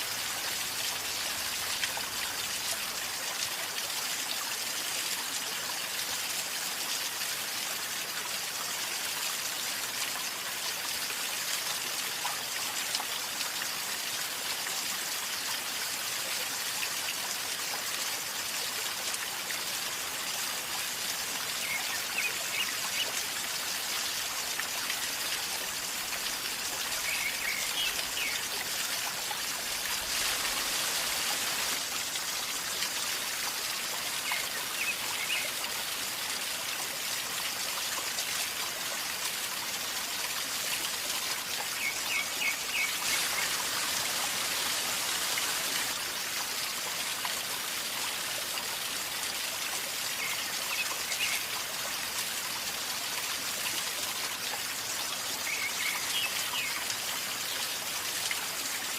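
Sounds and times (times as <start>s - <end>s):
river water gurgling: 0.0s - 58.9s.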